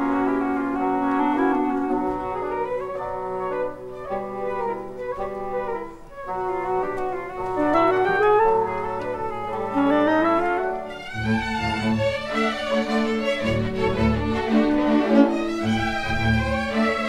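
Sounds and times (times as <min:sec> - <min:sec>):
orchestral ballet music: 0:00.0 - 0:17.0.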